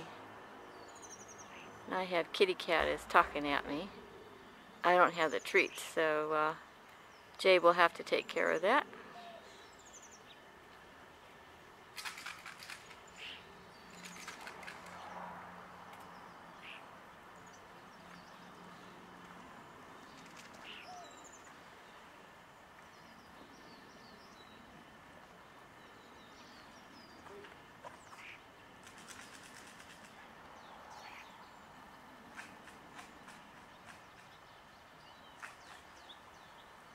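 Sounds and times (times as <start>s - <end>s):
small birds chirping: 0.7s - 10.5s, 11.2s - 15.2s, 15.9s - 36.9s.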